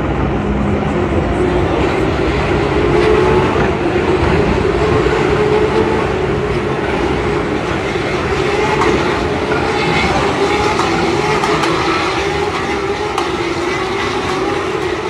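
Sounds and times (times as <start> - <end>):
helicopter rumbling overhead: 0.0 - 15.0.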